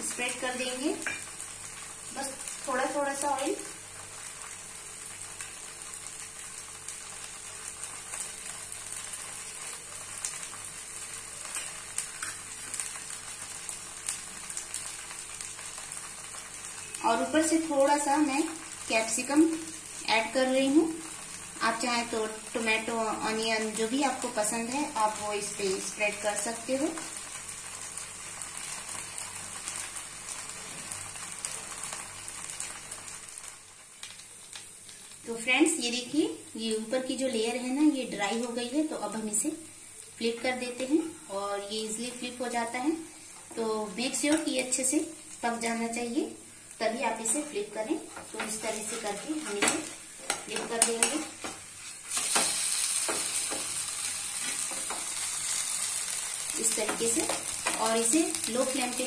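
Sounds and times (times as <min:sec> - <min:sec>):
pancake sizzling in oil: 0:00.0 - 0:59.0.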